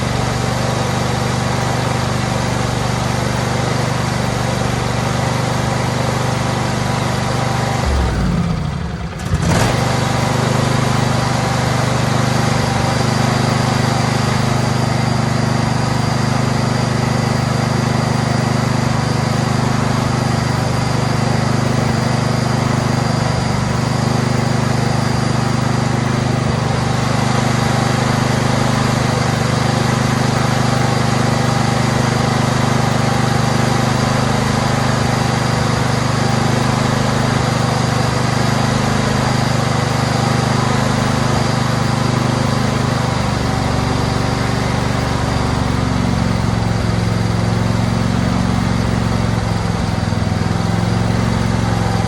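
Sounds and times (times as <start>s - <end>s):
riding mower engine running: 0.0s - 52.0s.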